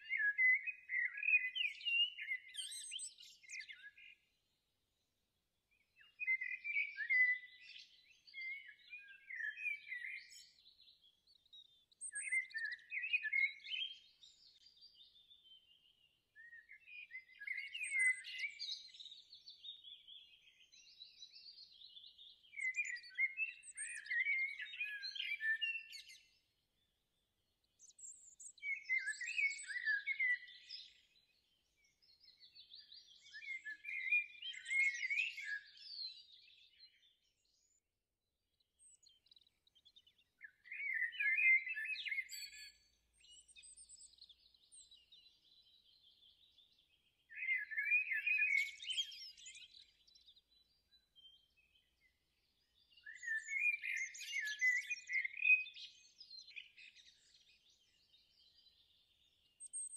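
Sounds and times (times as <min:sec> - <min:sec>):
songbird chirping and trilling: 0:00.0 - 0:05.1, 0:05.7 - 0:59.9.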